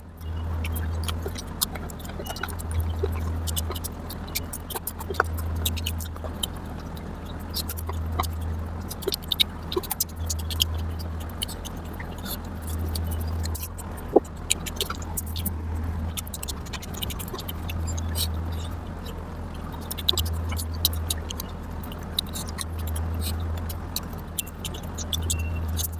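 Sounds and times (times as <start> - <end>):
steady low hum: 0.0 - 25.9
wet chewing: 0.0 - 25.9.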